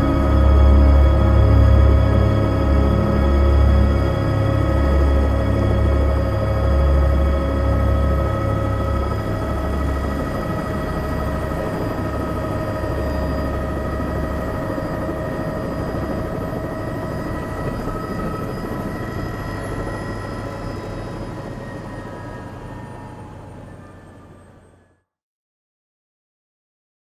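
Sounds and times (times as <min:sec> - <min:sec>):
helicopter rotor rumble: 0:00.0 - 0:24.9
helicopter turbine whine: 0:00.0 - 0:25.0.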